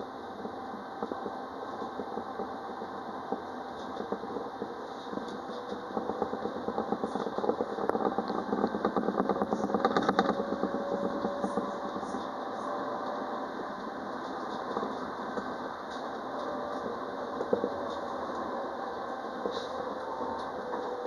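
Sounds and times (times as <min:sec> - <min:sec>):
faint steady whine: 0:00.0 - 0:21.0
tram running on track: 0:00.0 - 0:21.0.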